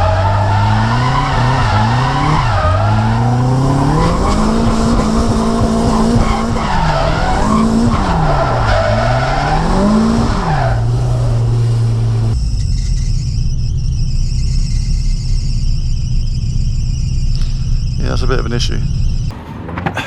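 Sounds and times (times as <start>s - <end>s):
car engine revving: 0.0s - 20.0s
tyres skidding and squealing: 0.0s - 20.0s.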